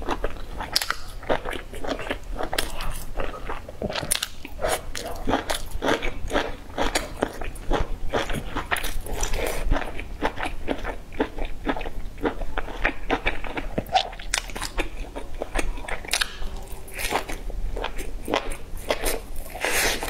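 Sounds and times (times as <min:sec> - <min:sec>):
chewing wet crunches: 0:00.0 - 0:20.0.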